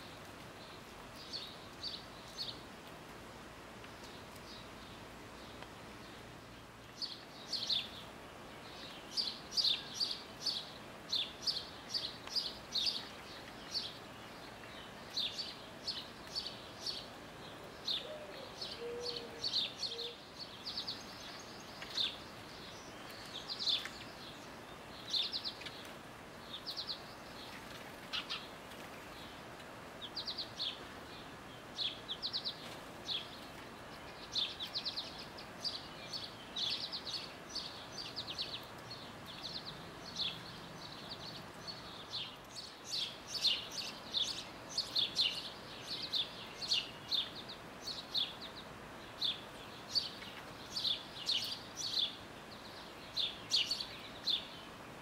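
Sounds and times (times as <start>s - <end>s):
faint background hiss: 0.0s - 55.0s
songbirds chirping: 0.0s - 55.0s.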